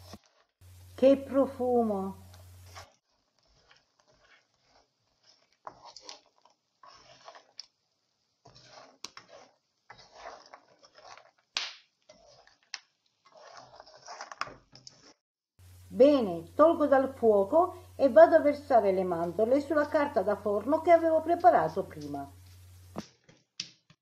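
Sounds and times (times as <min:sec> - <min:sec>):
wooden spoon scraping in a pan: 0:00.0 - 0:23.0.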